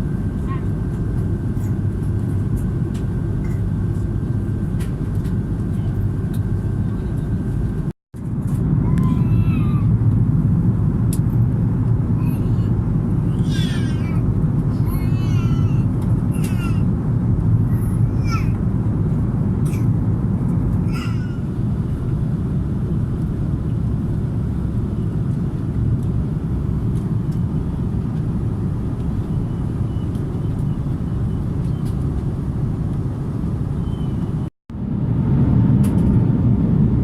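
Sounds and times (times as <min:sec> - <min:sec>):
airplane cabin rumble: 0:00.0 - 0:37.0.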